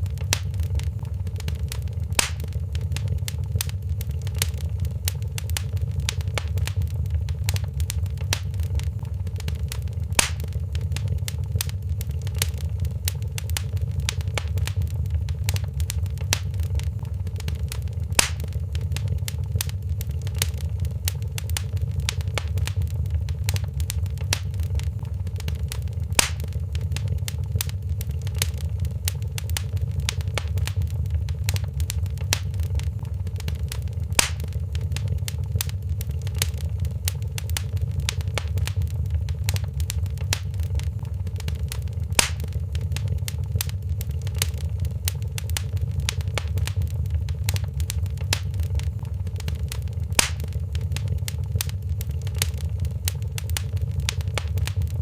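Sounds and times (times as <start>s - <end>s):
low fire rumble: 0.0s - 55.0s
sharp fire pop: 0.0s - 55.0s
wood fire crackling: 0.0s - 55.0s.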